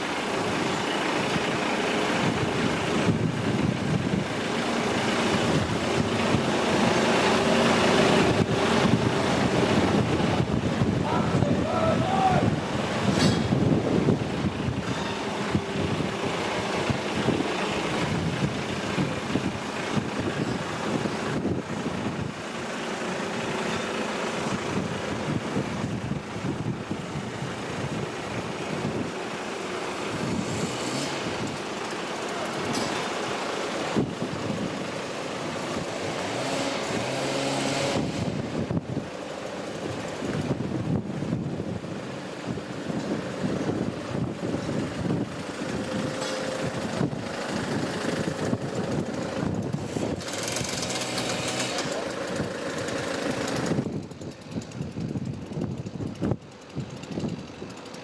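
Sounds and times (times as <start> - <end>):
low engine drone: 0.0 - 57.0
wind buffeting microphone: 2.2 - 22.5, 24.4 - 29.2, 33.9 - 51.5, 52.2 - 57.8.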